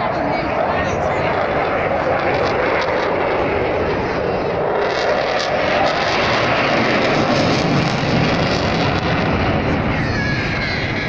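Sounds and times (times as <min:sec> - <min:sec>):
jet fighter flying past: 0:00.0 - 0:11.0.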